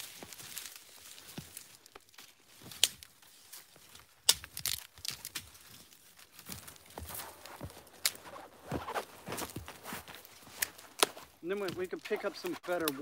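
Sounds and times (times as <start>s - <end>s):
dry twigs snapping and crackling: 0.0s - 12.2s, 12.8s - 13.0s.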